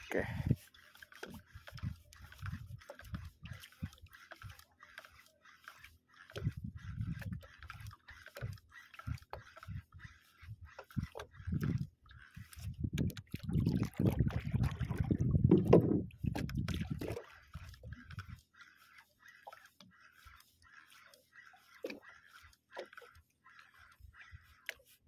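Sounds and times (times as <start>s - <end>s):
water sloshing against boat hull: 0.0s - 25.0s.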